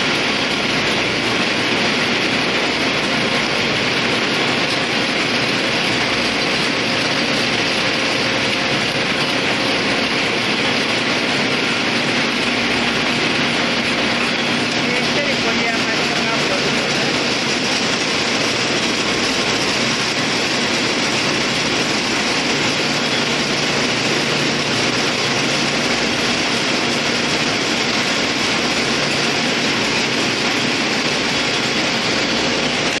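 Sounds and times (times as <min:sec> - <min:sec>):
yarn winding machine whirring: 0:00.0 - 0:33.0.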